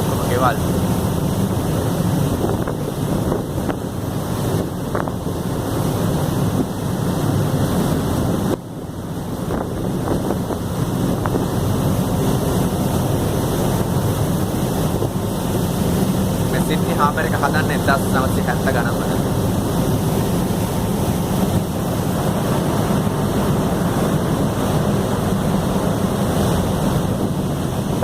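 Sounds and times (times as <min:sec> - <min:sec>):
ferry engine: 0:00.0 - 0:28.0
water wash: 0:00.0 - 0:28.0
wind buffeting microphone: 0:00.0 - 0:28.0.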